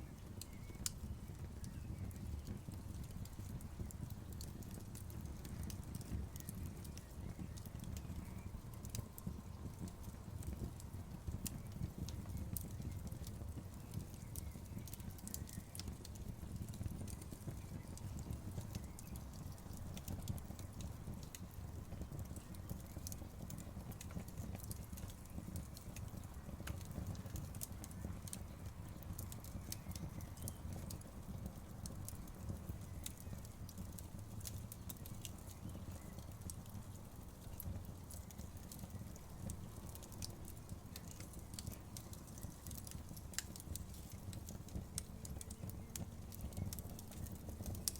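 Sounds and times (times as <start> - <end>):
campfire crackling and popping: 0.0 - 47.9
low rush of flames: 0.2 - 47.9.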